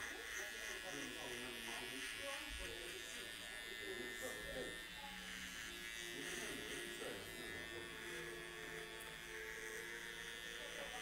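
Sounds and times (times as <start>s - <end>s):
hair trimmer buzzing: 0.0s - 11.0s.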